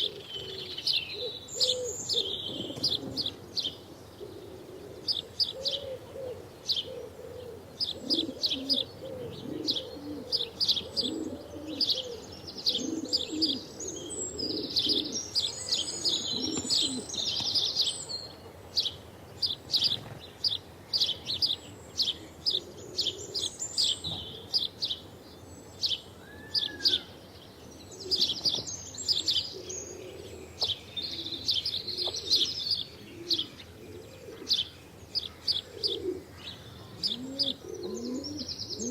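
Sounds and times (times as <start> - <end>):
low cooing calls: 0.0 - 38.9
sparrows chirping: 0.0 - 38.9.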